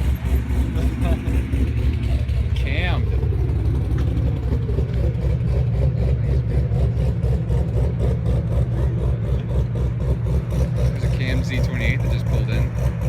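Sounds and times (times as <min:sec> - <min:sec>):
car engine pulsing rumble: 0:00.0 - 0:13.0.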